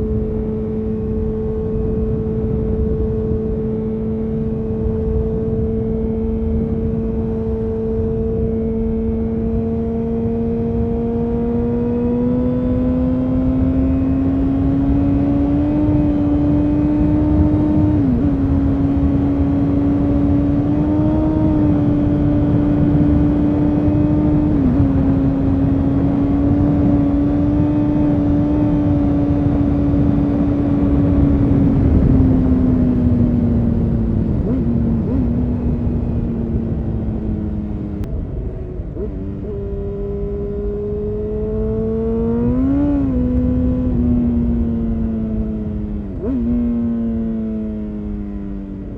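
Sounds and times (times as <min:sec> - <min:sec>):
motorcycle engine while riding: 0:00.0 - 0:48.9.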